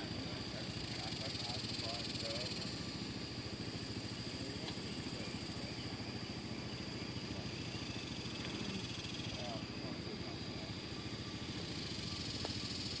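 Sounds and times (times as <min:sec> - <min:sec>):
insects buzzing: 0:00.0 - 0:13.0
vehicle engine idling: 0:00.0 - 0:13.0.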